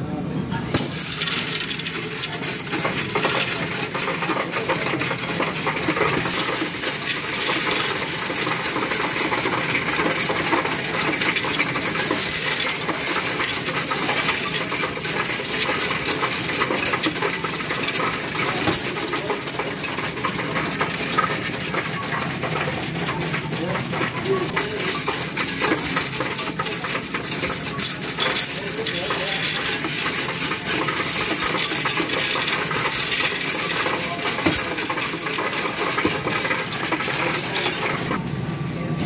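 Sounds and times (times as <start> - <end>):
coins clattering in counting machine: 0.8 - 38.2.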